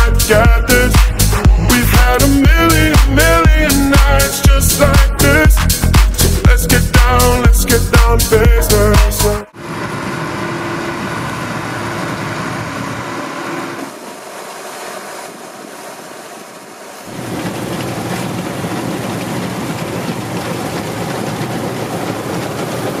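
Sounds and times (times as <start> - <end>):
high whine: 0.0 - 20.2
combine harvester droning: 0.0 - 23.0.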